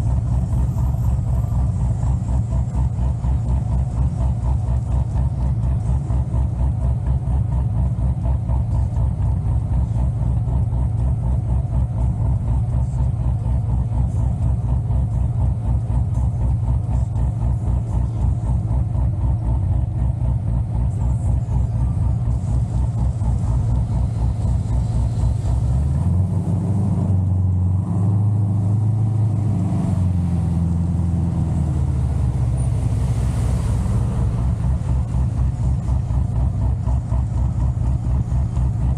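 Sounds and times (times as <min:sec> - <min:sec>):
car engine with lumpy idle: 0:00.0 - 0:38.9.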